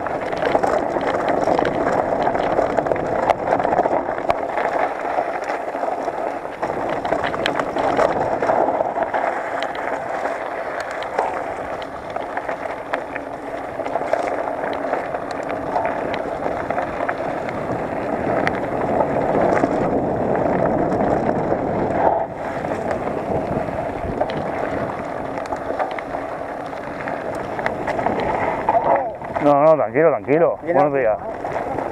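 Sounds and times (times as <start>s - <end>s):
bike clicking and rattling: 0.0s - 31.9s
bike tyres rushing over dirt: 0.0s - 31.9s.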